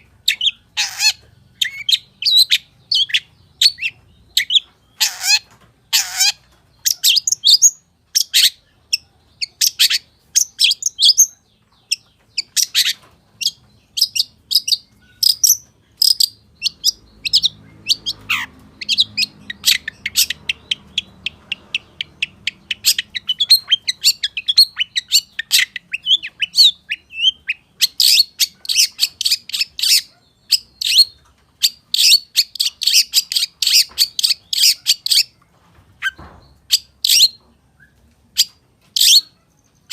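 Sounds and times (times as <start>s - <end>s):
shrike singing chirps and chatters: 0.0s - 35.4s, 36.1s - 39.9s.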